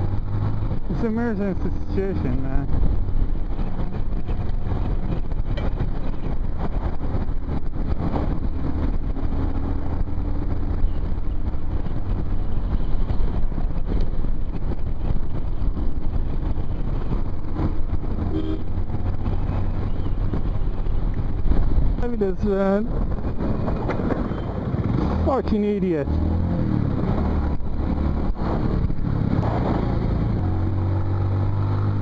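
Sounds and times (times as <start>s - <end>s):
motorcycle engine running: 0.0s - 32.0s
wind rushing over microphone: 0.0s - 32.0s.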